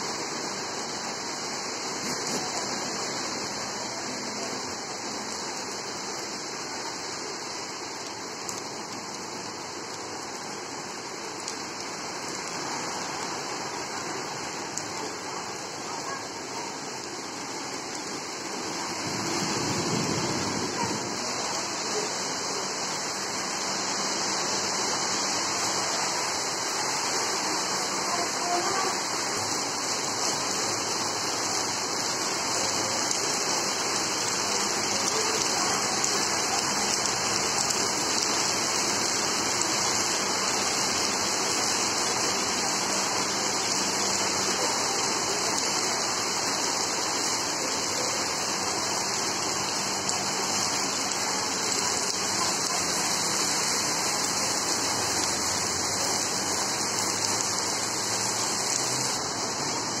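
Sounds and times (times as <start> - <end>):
heavy rain hissing: 0.0 - 60.0.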